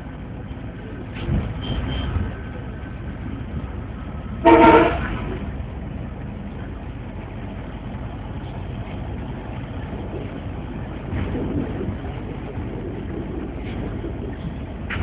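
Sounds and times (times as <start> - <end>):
moving train rumbling: 0.0 - 15.0.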